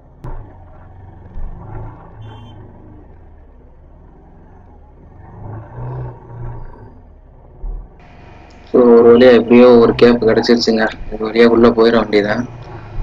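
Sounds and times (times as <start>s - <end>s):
motorcycle engine rumbling: 0.0s - 13.0s
slow traffic: 0.0s - 13.0s.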